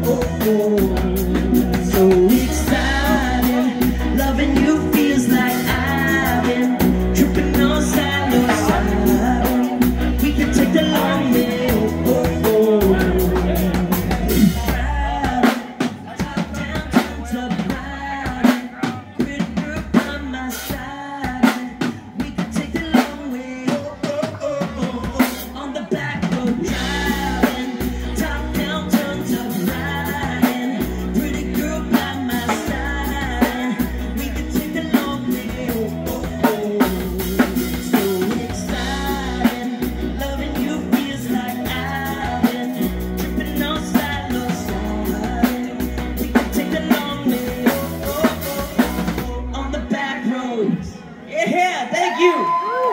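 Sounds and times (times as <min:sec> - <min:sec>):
live band playing: 0:00.0 - 0:52.9.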